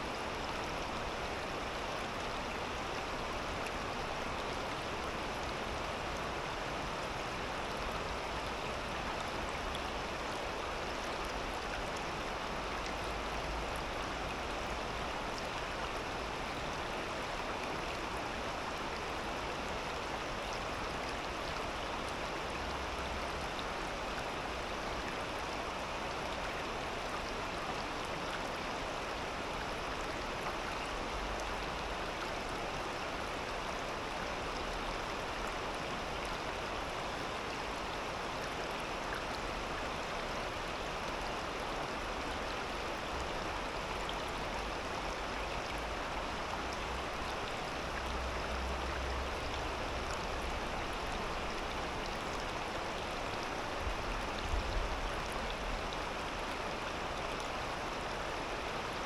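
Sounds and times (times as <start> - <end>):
river babbling over stones: 0.0 - 59.0.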